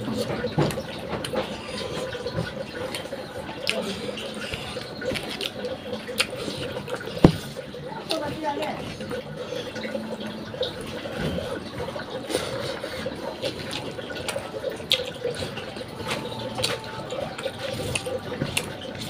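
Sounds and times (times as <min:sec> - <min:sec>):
wet chewing and lip-smacking: 0:00.0 - 0:19.0.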